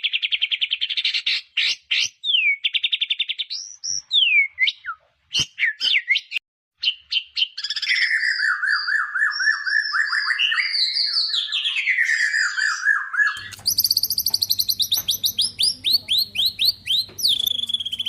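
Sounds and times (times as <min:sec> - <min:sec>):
bird singing whistled notes: 0:02.2 - 0:18.0.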